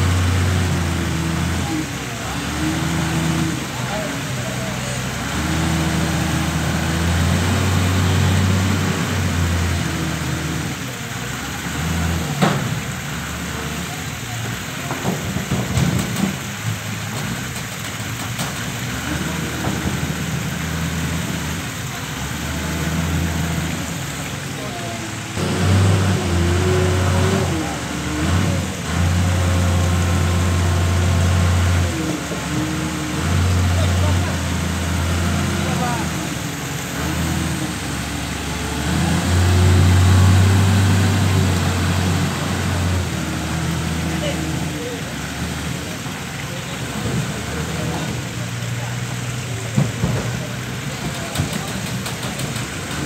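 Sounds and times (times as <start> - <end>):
heavy diesel engine idling: 0.0 - 53.0.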